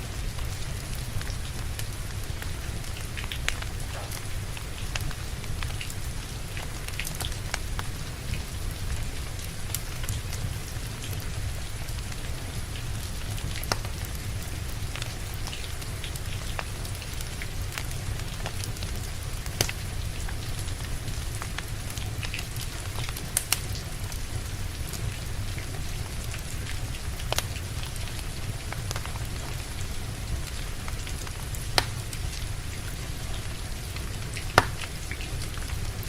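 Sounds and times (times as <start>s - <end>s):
steady rain falling: 0.0s - 36.0s
wood fire crackling: 0.0s - 36.0s.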